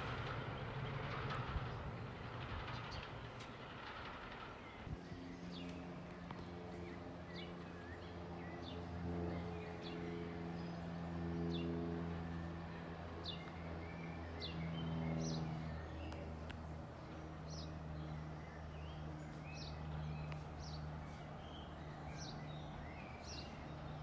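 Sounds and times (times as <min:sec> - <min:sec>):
distant diesel locomotive drone: 0:00.0 - 0:24.0
small birds chirping: 0:00.0 - 0:24.0.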